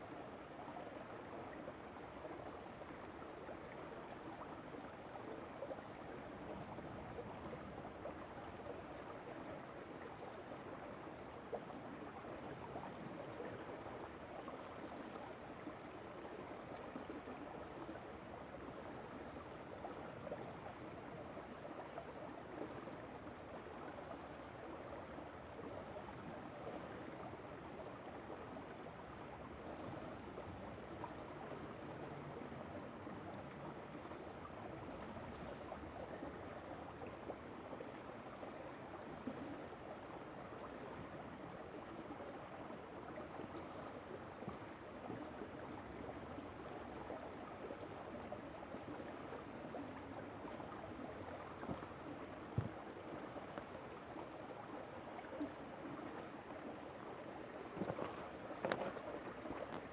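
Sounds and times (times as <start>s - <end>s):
river water flowing over stones: 7.1s - 59.9s.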